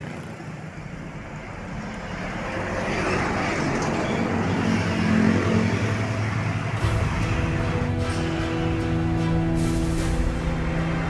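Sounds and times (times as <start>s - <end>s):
heavy vehicle approaching: 0.0s - 11.0s.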